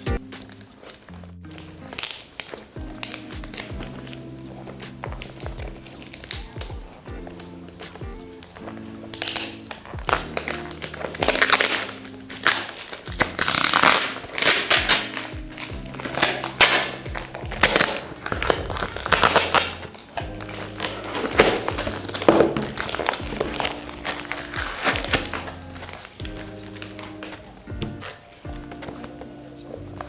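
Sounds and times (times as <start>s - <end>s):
background music with low notes: 0.0s - 30.0s
packaging crinkling and rustling: 0.0s - 30.0s.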